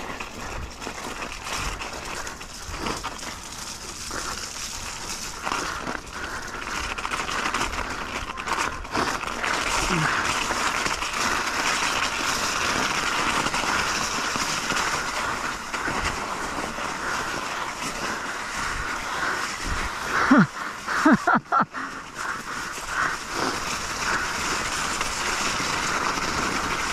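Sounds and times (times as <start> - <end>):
bike tyres rolling over trail: 0.0 - 26.9.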